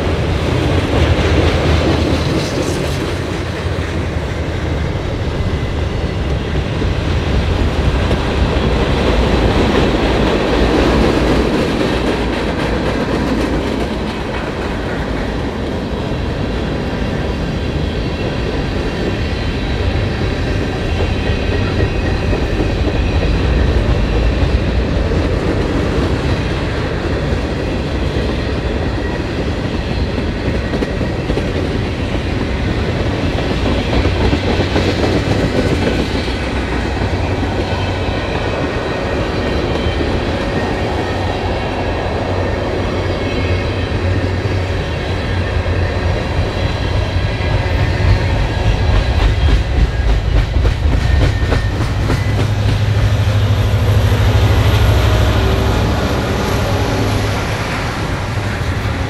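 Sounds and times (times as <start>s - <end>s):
freight train cars rolling on rails: 0.0s - 59.0s.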